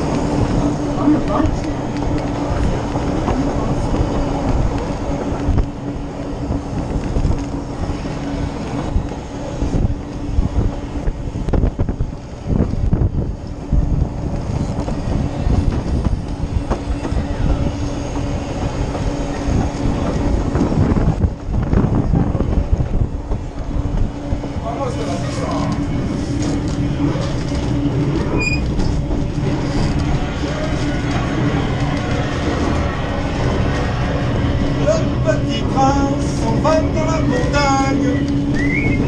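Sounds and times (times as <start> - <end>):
train carriage rumbling on track: 0.0 - 39.0.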